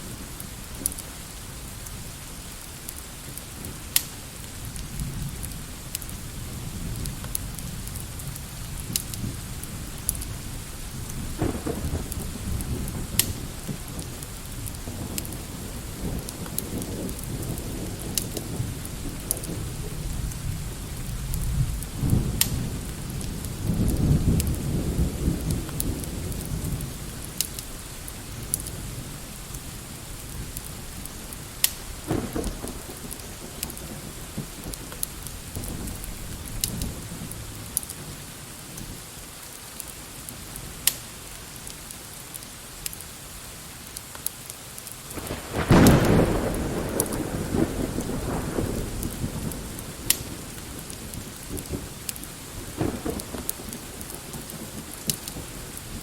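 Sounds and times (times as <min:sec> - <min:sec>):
steady rain: 0:00.0 - 0:56.0
fireplace crackles: 0:00.2 - 0:24.6, 0:25.4 - 0:48.1, 0:48.7 - 0:56.0
low rolling thunder: 0:03.5 - 0:39.0, 0:45.1 - 0:56.0.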